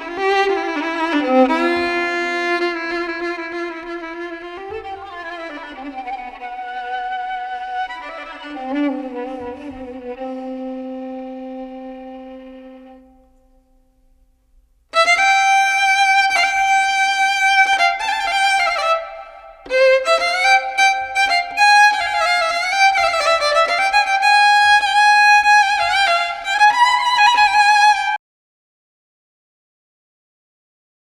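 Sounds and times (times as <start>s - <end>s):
solo violin slow melody: 0.0s - 13.6s, 14.9s - 28.2s.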